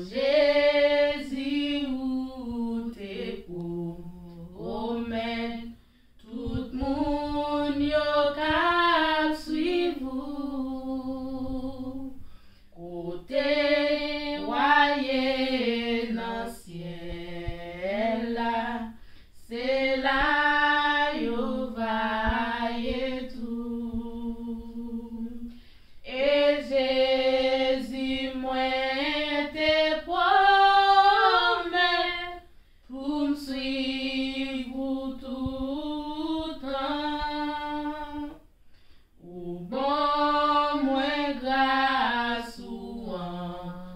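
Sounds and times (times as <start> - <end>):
women singing a cappella: 0.0 - 43.9.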